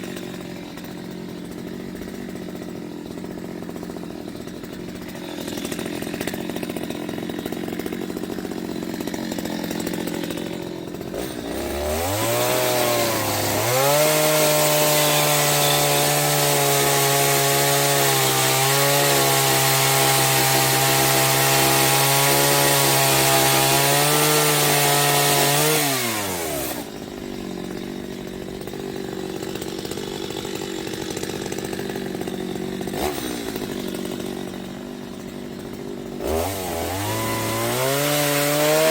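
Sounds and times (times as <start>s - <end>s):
chainsaw engine idling and revving: 0.0s - 38.9s.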